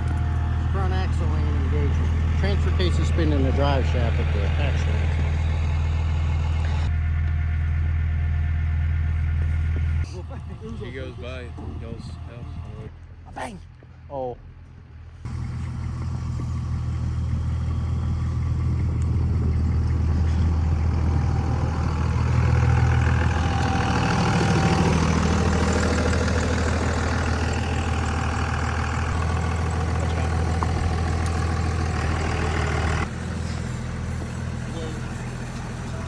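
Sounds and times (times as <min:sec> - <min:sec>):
vehicle engine running: 0:00.0 - 0:36.0.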